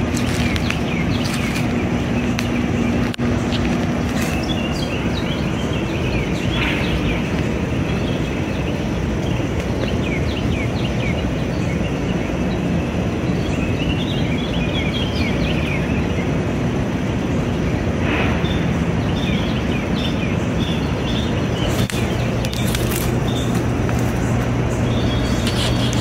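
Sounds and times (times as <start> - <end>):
bird chirps and calls: 0.0 - 16.4, 17.4 - 26.0
distant traffic rumble: 0.0 - 26.0.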